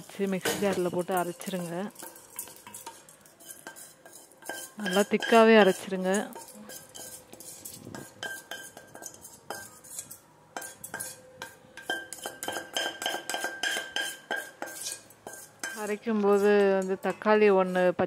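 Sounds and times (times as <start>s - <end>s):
metal spoon scraping and clinking: 0.0s - 18.0s.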